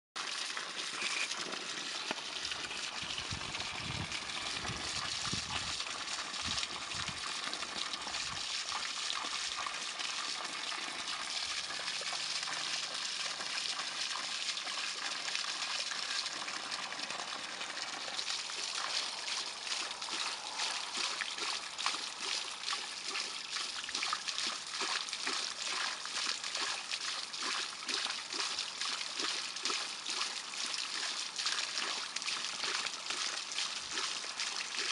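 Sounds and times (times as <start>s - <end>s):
dog lapping water: 0.2s - 34.9s
water gushing and splashing: 0.2s - 34.9s.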